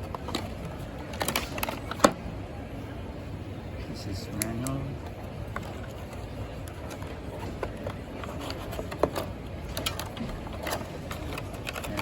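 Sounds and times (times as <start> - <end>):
packaging clicks and rustles: 0.0 - 2.2, 4.3 - 12.0.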